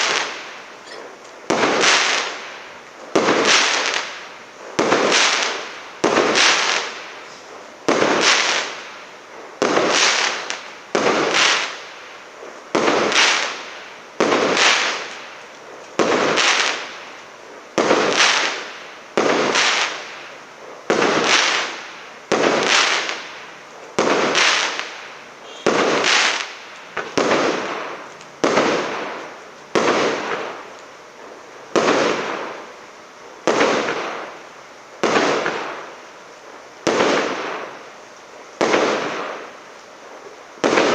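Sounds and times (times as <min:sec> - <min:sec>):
firework bangs: 0:00.0 - 0:40.9.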